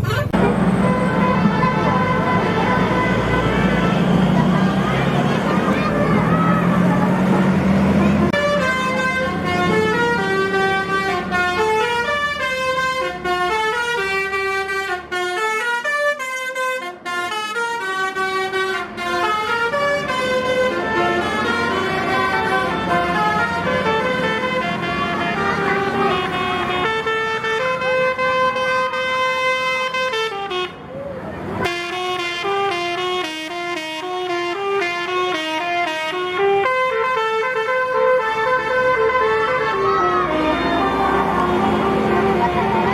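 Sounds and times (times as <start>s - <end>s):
musical air horn melody: 0.6s - 4.8s, 7.9s - 30.8s, 31.6s - 42.9s.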